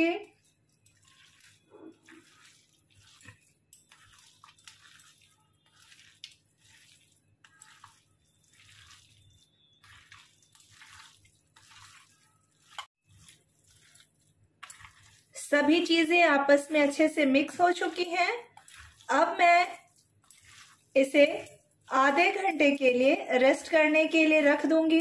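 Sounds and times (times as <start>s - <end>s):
wet squelching of kneaded meat: 0.0s - 25.0s.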